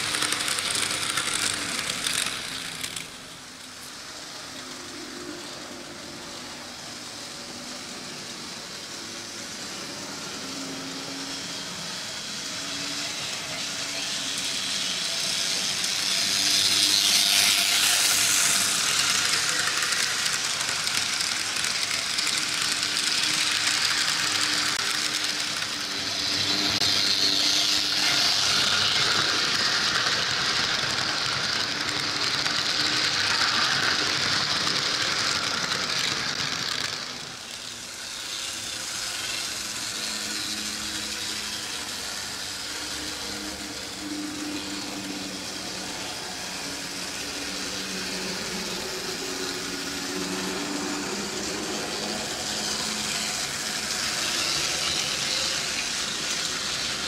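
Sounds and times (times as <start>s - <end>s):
model train wheels rattling on rails: 0.0s - 57.0s.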